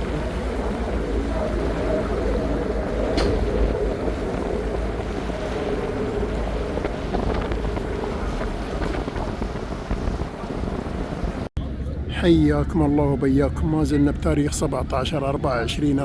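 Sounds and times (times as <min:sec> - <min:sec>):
ferry engine rumbling: 0:00.0 - 0:16.0
wind buffeting microphone: 0:00.0 - 0:16.0.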